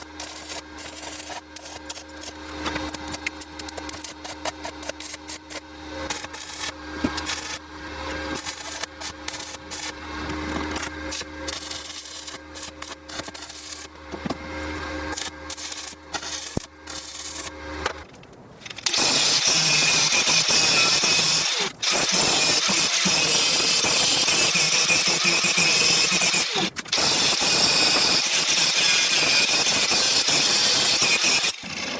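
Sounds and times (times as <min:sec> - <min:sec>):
power tool running: 0:00.0 - 0:31.9.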